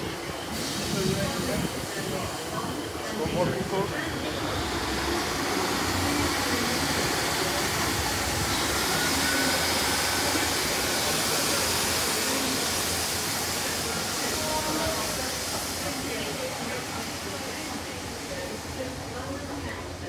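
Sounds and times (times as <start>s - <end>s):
train rushing: 0.0s - 20.0s.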